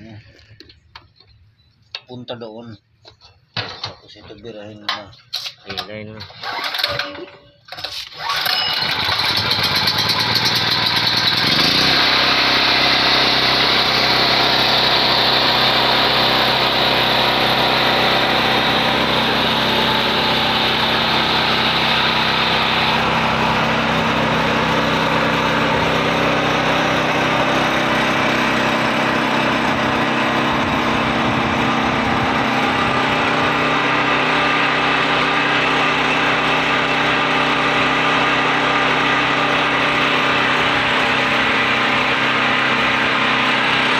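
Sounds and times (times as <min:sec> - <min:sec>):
portable generator engine running: 0:08.1 - 0:43.9.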